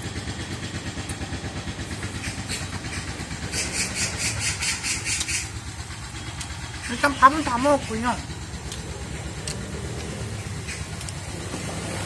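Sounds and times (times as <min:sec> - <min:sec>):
construction machinery engine rumbling: 0:00.0 - 0:12.0.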